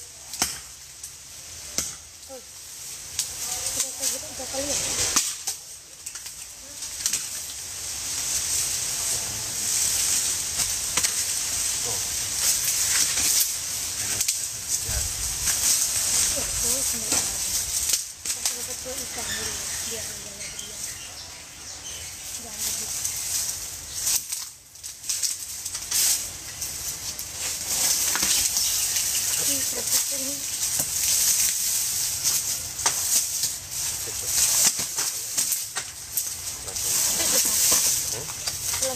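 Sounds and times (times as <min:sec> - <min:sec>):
dry leaves and twigs rustling: 0:00.0 - 0:38.9
steady high hiss: 0:00.0 - 0:38.9
twigs snapping: 0:03.1 - 0:08.8, 0:09.8 - 0:19.3, 0:22.6 - 0:38.9.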